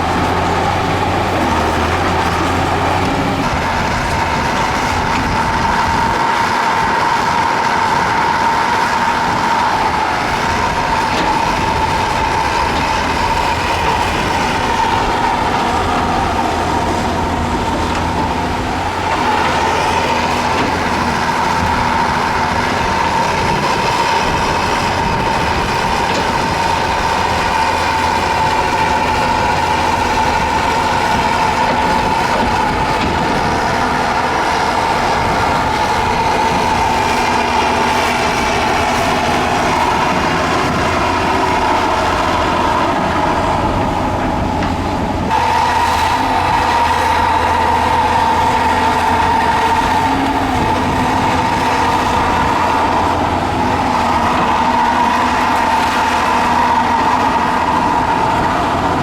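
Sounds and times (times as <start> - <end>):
heavy earthmoving machinery rumbling: 0.0 - 59.0.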